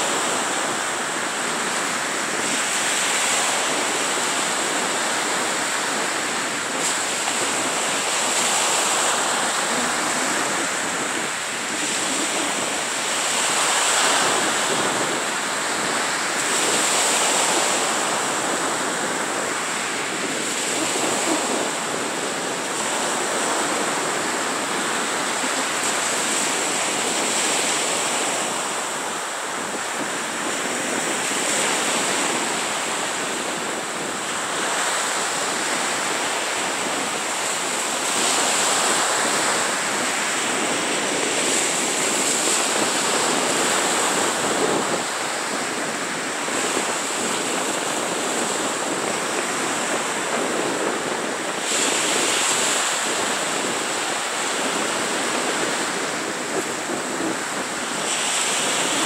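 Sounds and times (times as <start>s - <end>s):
waves washing up a beach: 0.0s - 59.0s.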